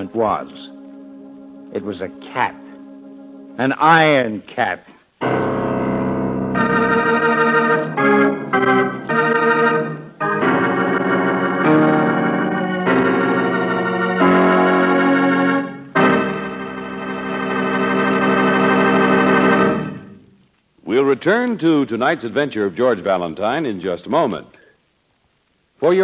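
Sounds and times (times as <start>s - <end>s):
organ chords: 0.0s - 23.6s.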